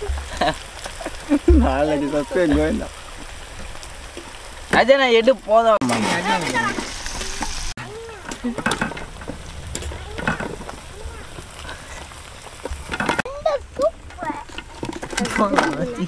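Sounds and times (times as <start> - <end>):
food sizzling in hot oil: 0.0 - 14.8.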